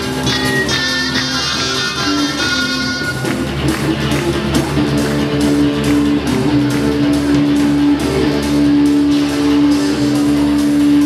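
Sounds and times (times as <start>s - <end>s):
bass line: 0.0s - 11.0s
guitar playing: 0.0s - 11.0s
steady beat: 0.0s - 11.0s.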